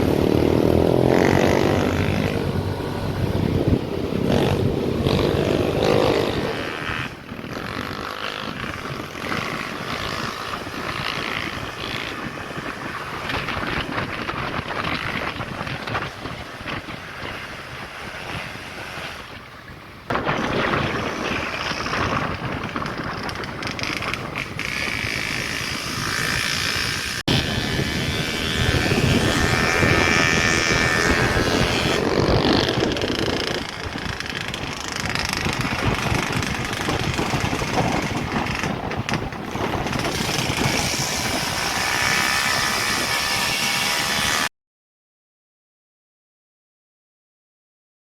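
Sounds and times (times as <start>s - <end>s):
wind noise on microphone: 0.0s - 44.5s.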